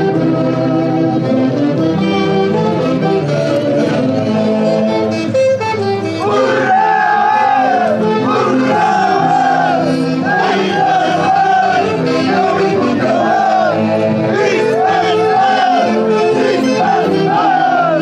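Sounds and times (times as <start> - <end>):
festival orchestra playing: 0.0 - 18.0.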